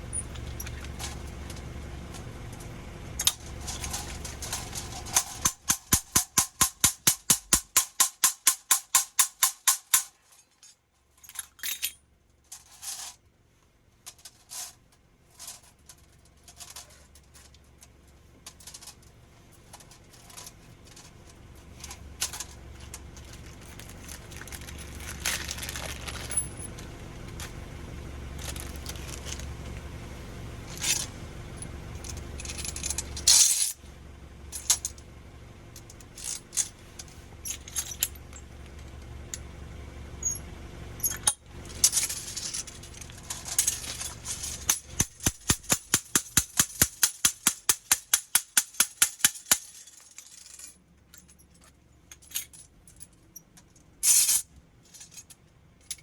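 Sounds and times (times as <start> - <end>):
metal tools clinking and scraping: 0.0 - 6.4, 8.6 - 13.2, 14.1 - 27.6, 28.3 - 29.8, 30.6 - 33.9, 34.5 - 35.0, 35.8 - 39.5, 40.2 - 56.0
low steady hum: 0.0 - 56.0.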